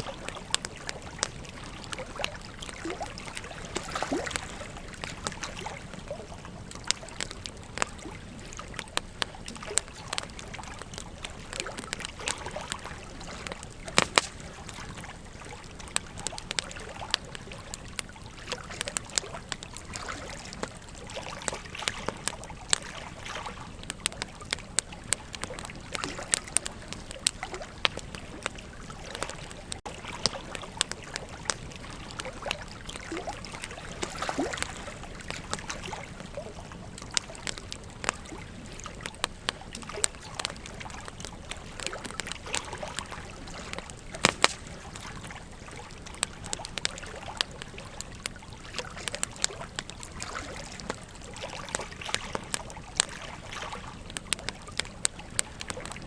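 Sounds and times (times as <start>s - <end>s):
river water flowing: 0.0s - 54.0s
campfire crackling and popping: 0.0s - 56.0s.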